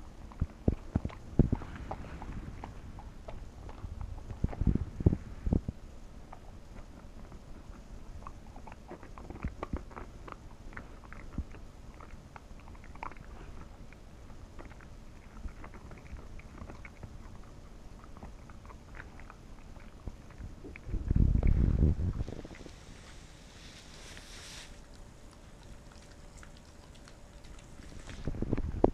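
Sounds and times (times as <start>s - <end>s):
dog chewing a treat: 0.0s - 23.1s, 23.9s - 28.9s.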